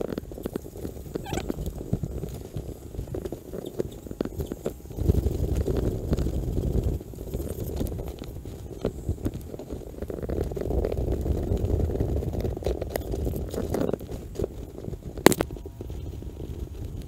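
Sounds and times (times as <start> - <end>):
rope and gear rustling on microphone: 0.0 - 17.0.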